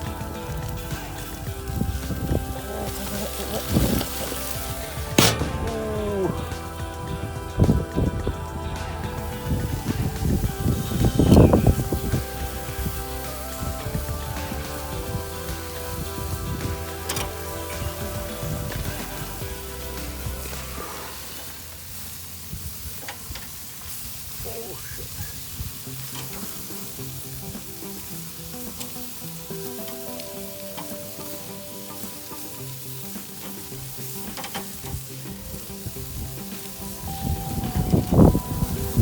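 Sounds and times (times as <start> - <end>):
meat sizzling on a grill: 0.0 - 39.0.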